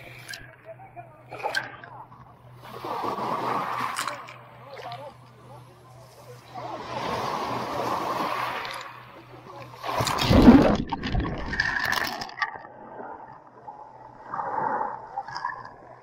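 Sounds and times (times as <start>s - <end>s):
muffled water over microphone: 0.0s - 16.0s.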